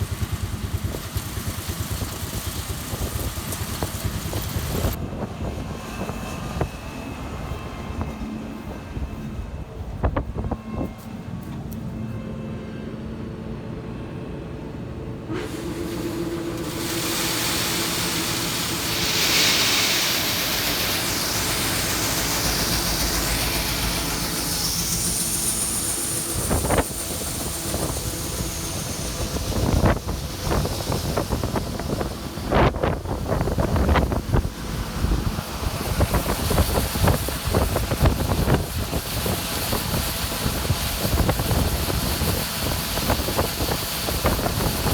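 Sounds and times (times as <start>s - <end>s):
wind buffeting microphone: 0.0s - 11.1s, 18.7s - 44.9s
farm machinery engine running: 0.0s - 11.8s, 15.3s - 44.9s.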